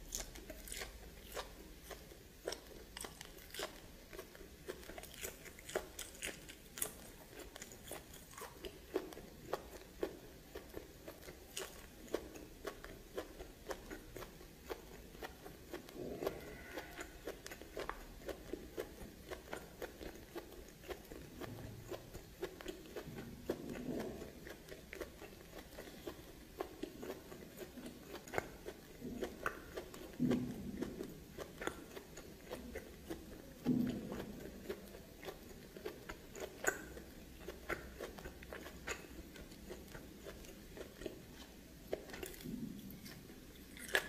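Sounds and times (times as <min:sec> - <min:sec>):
chewing and biting: 0:00.0 - 0:44.0.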